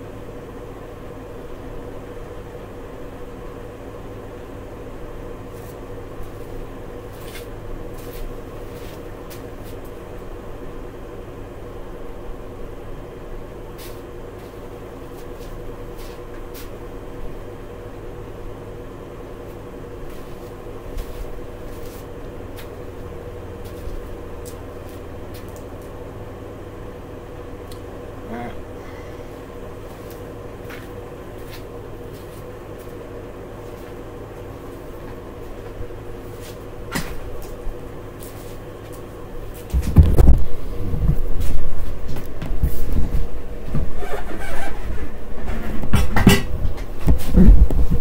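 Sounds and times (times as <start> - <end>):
machine hum: 0.0 - 48.0.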